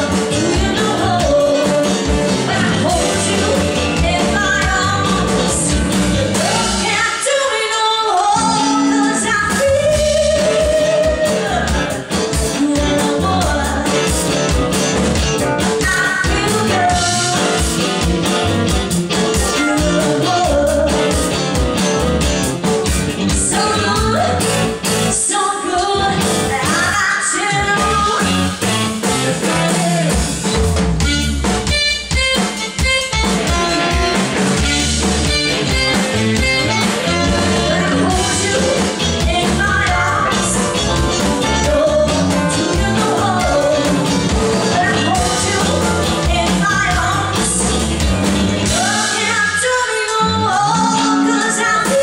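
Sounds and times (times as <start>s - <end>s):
drum kit beat: 0.0s - 25.3s, 26.0s - 52.0s
rock music with singer: 0.0s - 52.0s.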